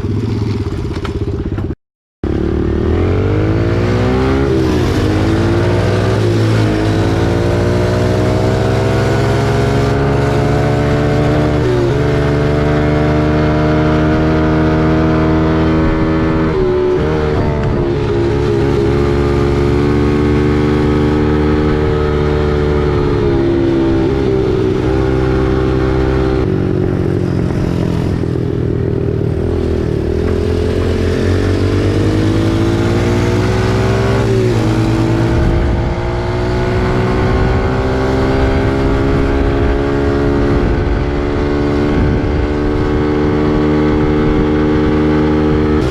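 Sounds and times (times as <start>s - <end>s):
dirt bike engine revving: 2.2s - 45.9s.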